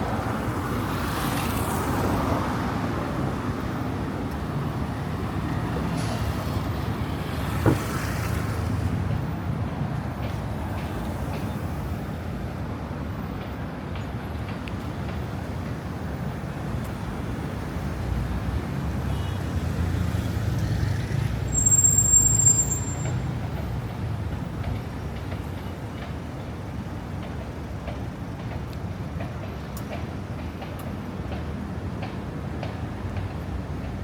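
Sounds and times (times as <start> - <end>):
city traffic hum: 0.0 - 34.0.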